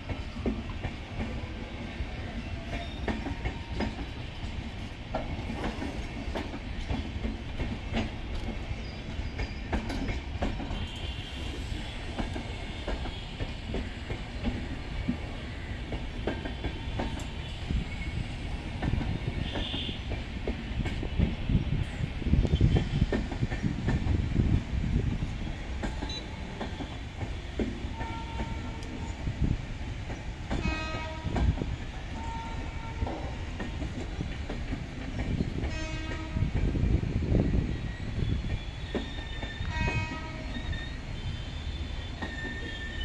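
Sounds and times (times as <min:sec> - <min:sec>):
wheels clacking over rail joints: 0:00.0 - 0:17.6, 0:18.5 - 0:21.6, 0:22.3 - 0:36.8
train coaches rumbling: 0:00.0 - 0:43.0.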